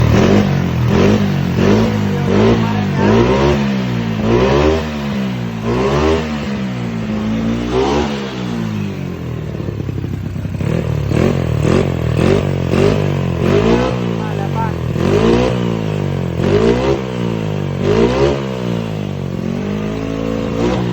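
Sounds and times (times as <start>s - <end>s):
scooter engine revving: 0.0s - 20.9s.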